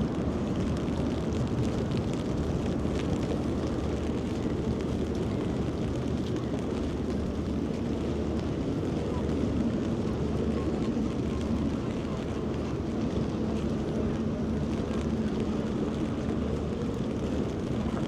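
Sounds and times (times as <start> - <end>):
low engine rumble: 0.1 - 18.0.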